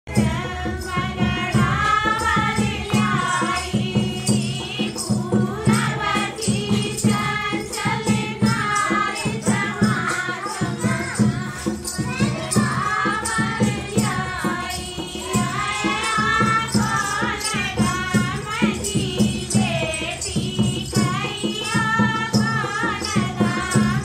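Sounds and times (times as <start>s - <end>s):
fast drum beat: 0.1s - 24.0s
voices singing folk song: 0.1s - 24.0s.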